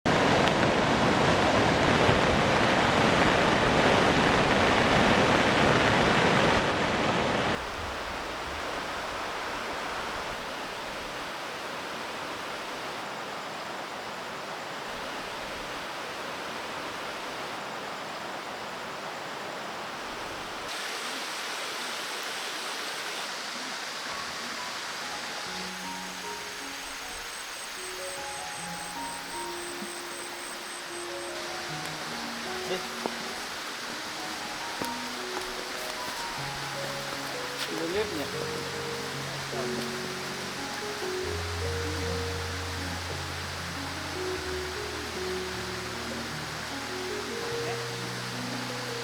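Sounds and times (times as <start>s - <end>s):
steady water noise: 0.1s - 49.0s.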